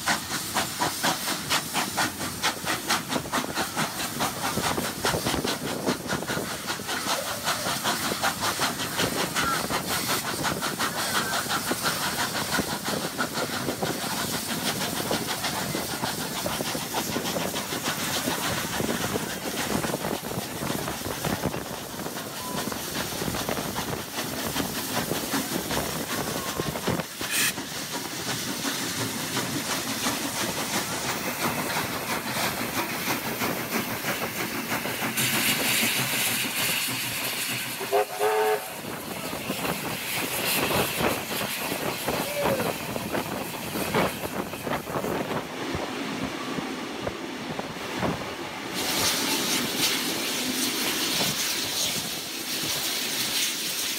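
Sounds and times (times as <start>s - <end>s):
hiss of steam: 0.0s - 53.9s
steam locomotive exhaust beats: 0.0s - 53.9s.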